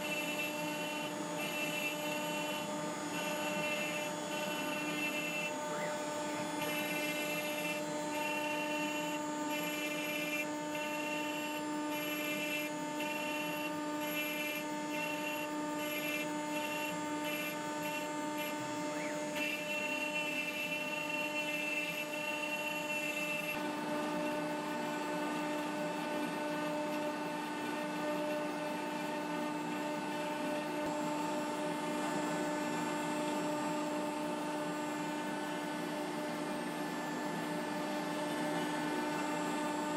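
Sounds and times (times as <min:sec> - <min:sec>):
end mill cutting wood: 0:00.0 - 0:39.9
router spindle whine: 0:00.0 - 0:39.9.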